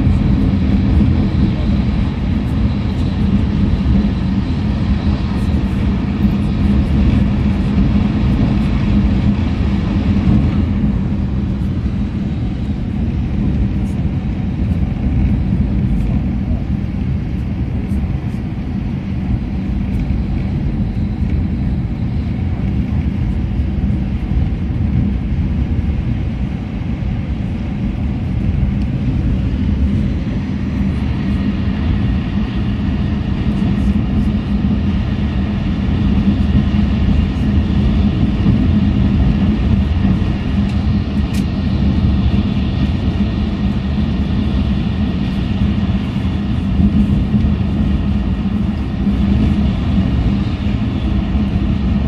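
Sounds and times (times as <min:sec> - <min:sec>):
low hum: 0:00.0 - 0:52.0
train rumble from inside car: 0:00.0 - 0:52.0.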